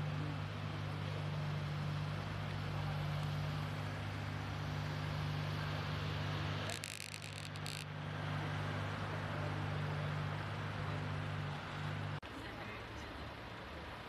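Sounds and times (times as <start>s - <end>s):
vehicle engine idling: 0.0s - 12.2s
street noise: 0.0s - 14.0s.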